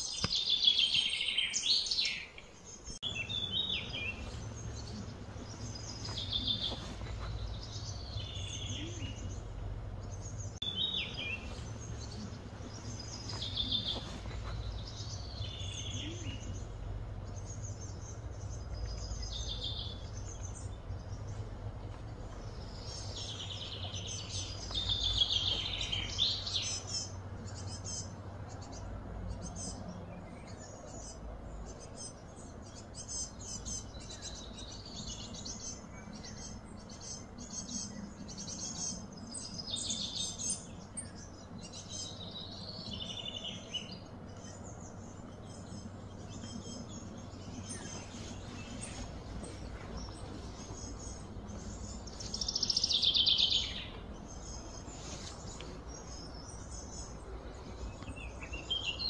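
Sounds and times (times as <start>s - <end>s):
birds chirping: 0.0s - 59.0s
steady low hum: 2.4s - 59.0s.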